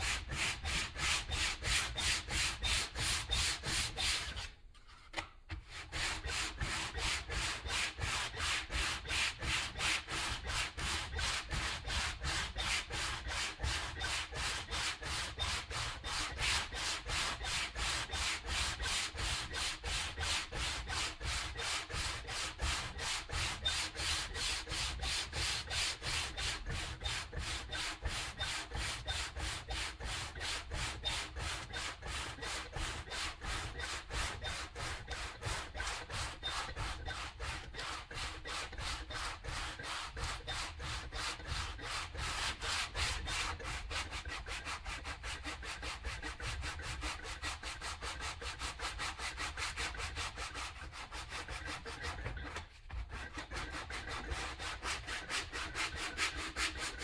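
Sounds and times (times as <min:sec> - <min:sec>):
sandpaper rubbing back and forth: 0:00.0 - 0:57.0.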